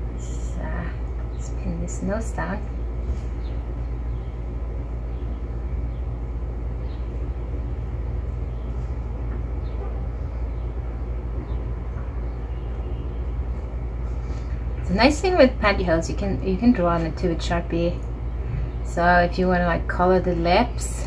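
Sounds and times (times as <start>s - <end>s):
low room rumble: 0.0s - 21.0s.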